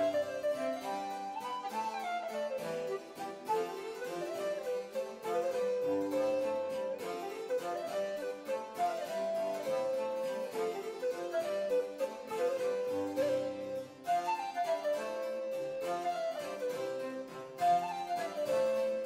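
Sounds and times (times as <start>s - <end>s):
keyboard melody: 0.0s - 19.0s.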